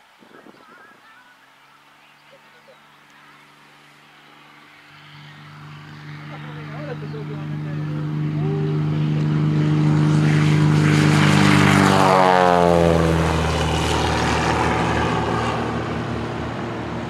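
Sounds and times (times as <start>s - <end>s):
propeller plane engine flying past: 0.0s - 17.0s.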